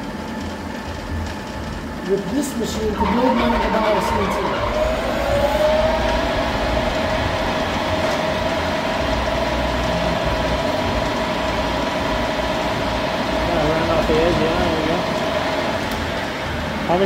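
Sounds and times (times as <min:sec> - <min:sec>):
lathe drive whining: 0:00.0 - 0:17.0
mechanical rumble: 0:00.0 - 0:17.0.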